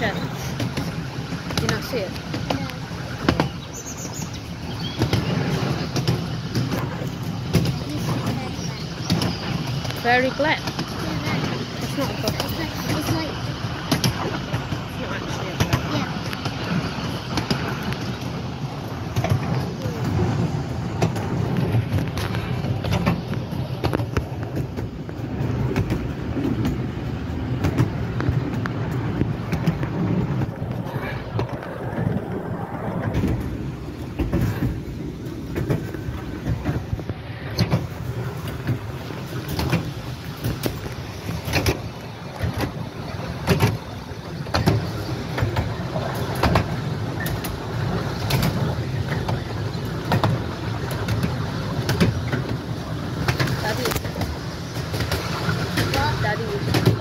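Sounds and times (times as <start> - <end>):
track clicks and knocks: 0.0 - 57.0
train wheels rumbling on rail: 0.0 - 57.0.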